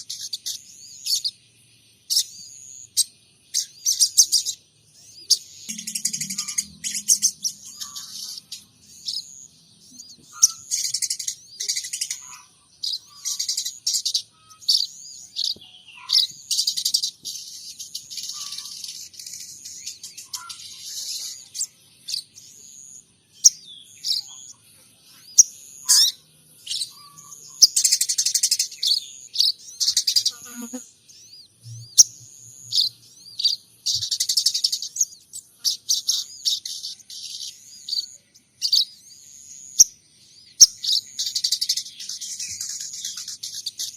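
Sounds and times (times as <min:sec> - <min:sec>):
songbird chirping and trilling: 0:00.0 - 0:43.9.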